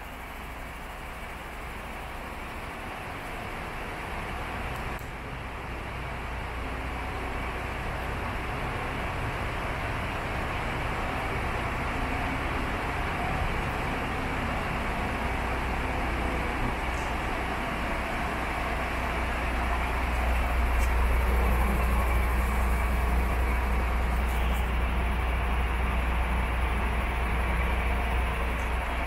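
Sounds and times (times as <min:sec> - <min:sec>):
truck diesel engine idling: 0:00.0 - 0:29.0.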